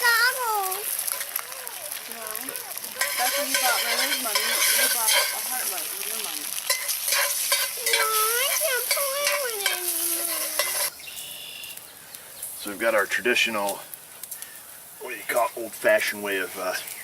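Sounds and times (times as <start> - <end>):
food sizzling over campfire: 0.0 - 17.0.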